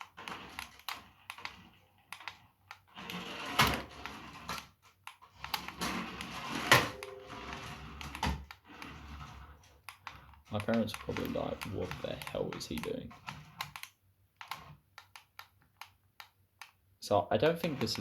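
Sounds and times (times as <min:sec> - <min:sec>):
toy car clicks and knocks: 0:00.0 - 0:06.6, 0:07.9 - 0:16.8.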